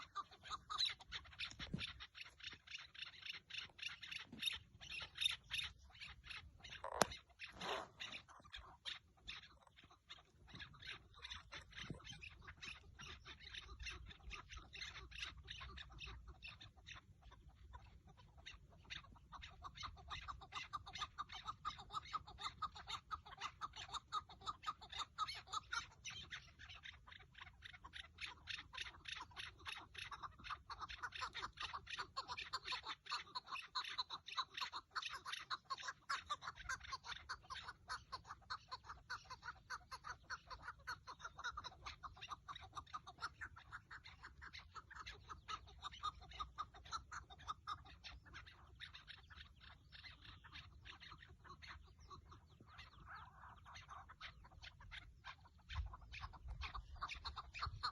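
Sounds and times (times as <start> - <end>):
partridge calling chuck notes: 0.0 - 57.9.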